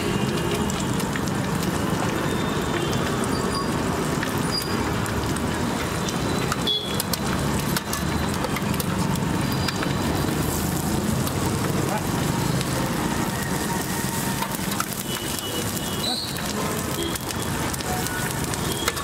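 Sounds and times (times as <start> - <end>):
egg sizzling on a griddle: 0.0 - 19.0
street traffic rumble: 0.0 - 19.0.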